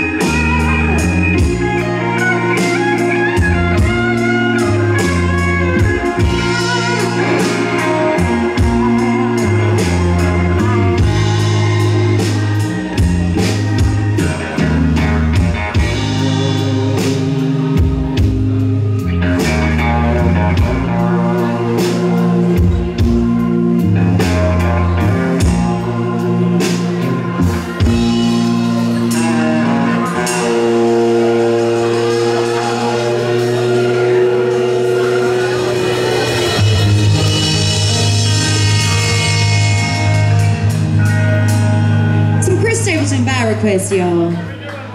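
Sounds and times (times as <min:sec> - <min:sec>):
drum kit: 0:00.0 - 0:43.7
bass guitar: 0:00.0 - 0:44.9
electric guitar: 0:00.0 - 0:44.9
keyboard: 0:00.0 - 0:44.9.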